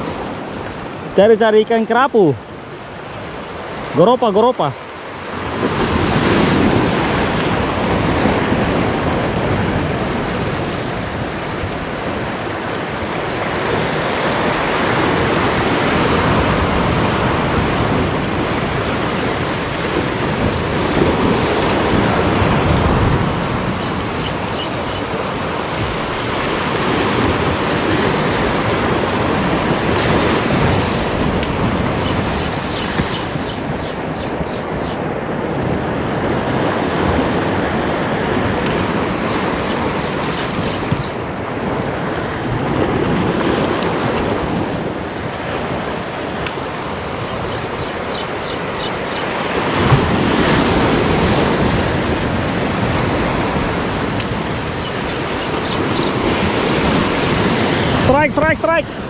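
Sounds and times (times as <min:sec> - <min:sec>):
sea waves breaking on rocks: 0:00.0 - 0:59.0.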